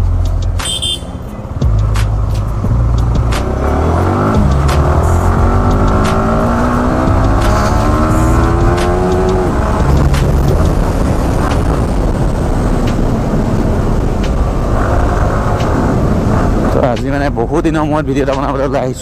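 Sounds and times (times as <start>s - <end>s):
motorcycle engine accelerating: 1.6s - 16.8s
wind rushing over microphone: 2.6s - 18.9s.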